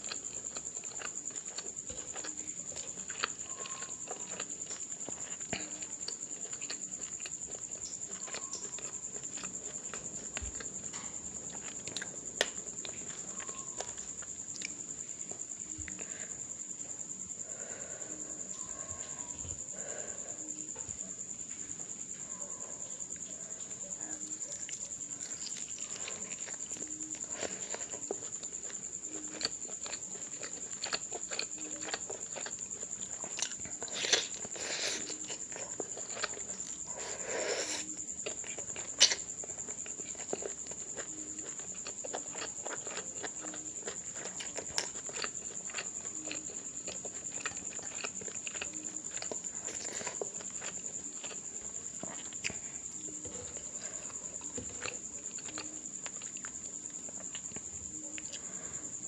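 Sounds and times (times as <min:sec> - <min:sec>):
chewing and mouth clicks: 0:00.0 - 0:21.7, 0:22.4 - 0:59.0
faint high-pitched whine: 0:00.0 - 0:59.0.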